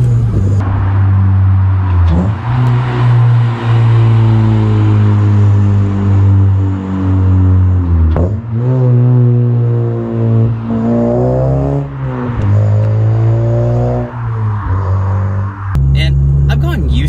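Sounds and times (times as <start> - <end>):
car exhaust under throttle: 0.0 - 17.0.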